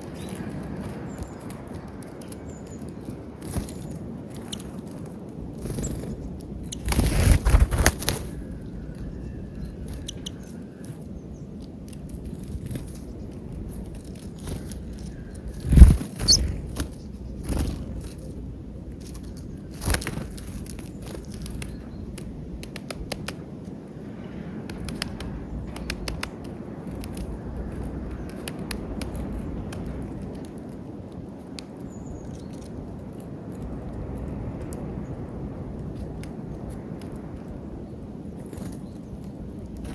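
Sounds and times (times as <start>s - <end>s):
birds pecking at feeder: 0.0s - 39.9s
steady background noise: 0.0s - 39.9s.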